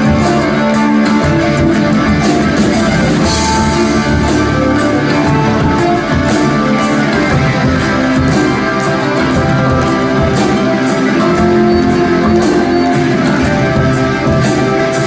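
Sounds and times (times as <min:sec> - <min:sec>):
rock music with guitars and drums: 0:00.0 - 0:15.0.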